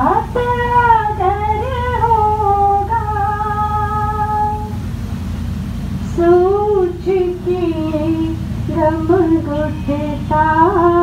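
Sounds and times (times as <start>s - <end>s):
woman singing: 0.0s - 4.8s, 6.1s - 11.0s
boat engine rumble: 0.0s - 11.0s.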